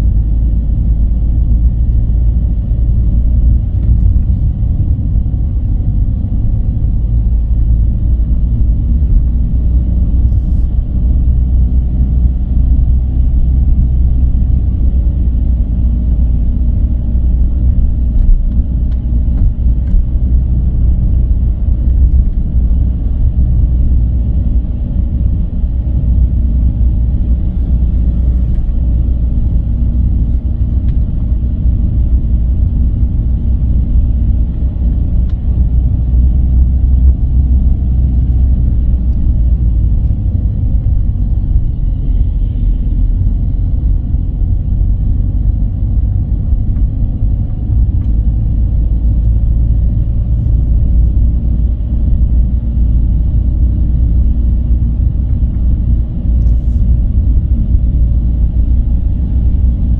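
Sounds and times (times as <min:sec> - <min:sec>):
car road rumble: 0:00.0 - 0:59.9.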